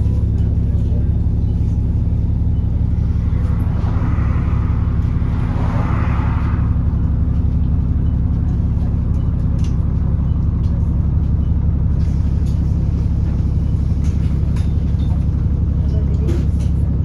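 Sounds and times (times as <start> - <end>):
bus engine low drone: 0.0 - 17.0.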